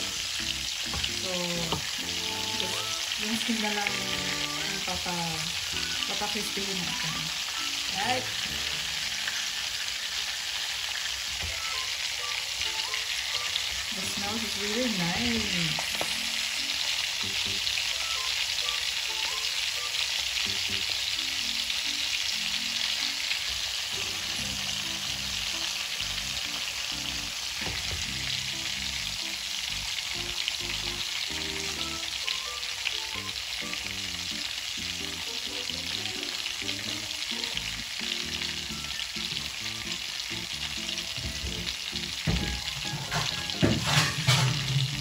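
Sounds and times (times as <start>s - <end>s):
chicken sizzling in hot oil: 0.0s - 45.0s.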